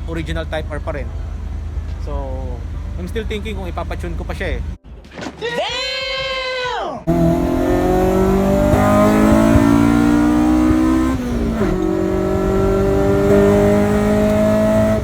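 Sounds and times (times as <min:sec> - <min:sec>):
car engine accelerating hard: 0:00.0 - 0:04.8, 0:07.1 - 0:15.0.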